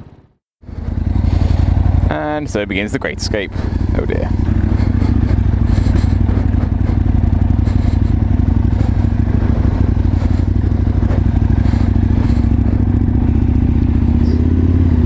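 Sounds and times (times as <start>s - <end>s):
motorbike engine running: 0.6s - 15.0s.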